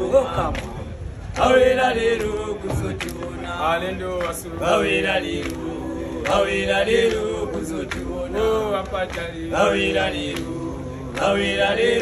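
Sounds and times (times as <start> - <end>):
men singing a rhythmic chant: 0.0 - 12.0.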